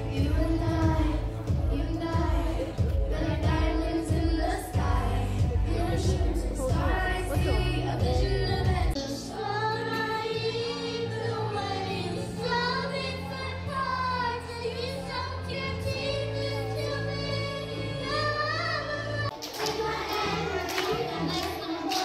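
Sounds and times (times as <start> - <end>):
girl singing into a microphone: 0.0 - 22.0.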